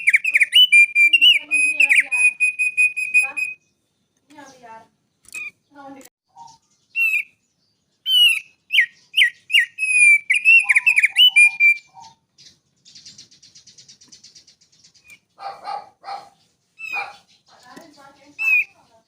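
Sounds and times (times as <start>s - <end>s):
songbird whistling: 0.0s - 3.8s, 6.3s - 18.8s
harsh rasping bird calls: 0.0s - 19.0s.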